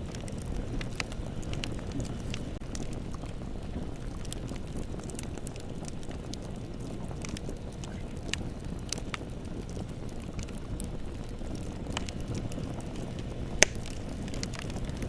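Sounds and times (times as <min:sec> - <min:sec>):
bonfire crackling: 0:00.0 - 0:15.0
fire popping: 0:00.0 - 0:15.0.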